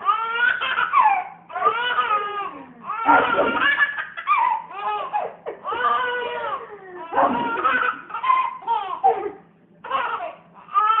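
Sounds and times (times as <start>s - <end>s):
baby wailing: 0.0s - 11.0s.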